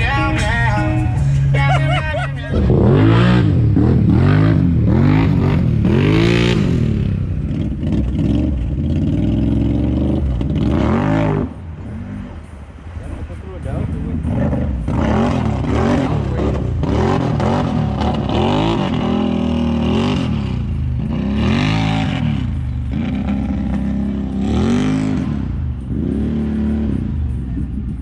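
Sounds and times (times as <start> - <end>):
off-road vehicle engine revving: 1.3 - 28.0.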